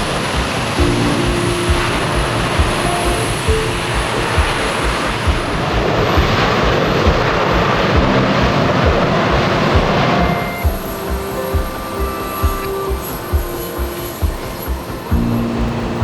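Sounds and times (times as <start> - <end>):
background music with low beat: 0.0 - 16.0.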